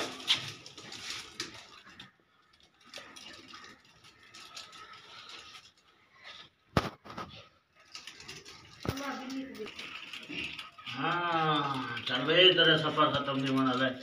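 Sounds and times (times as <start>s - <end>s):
toy car rattling over concrete: 0.0s - 14.0s.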